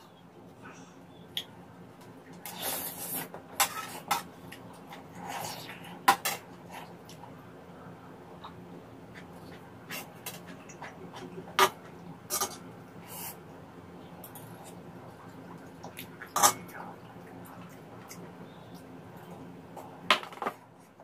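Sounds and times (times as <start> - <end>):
soft eating sounds: 0.0 - 21.0.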